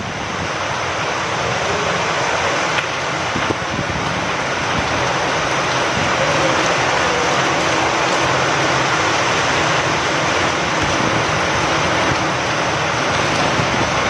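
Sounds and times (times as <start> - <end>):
steady rain with wind: 0.0 - 14.0.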